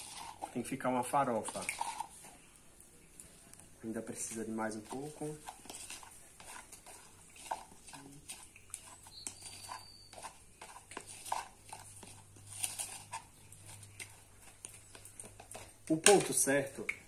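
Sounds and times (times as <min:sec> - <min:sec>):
sawdust mixing in wax: 0:00.0 - 0:02.6, 0:03.8 - 0:16.9.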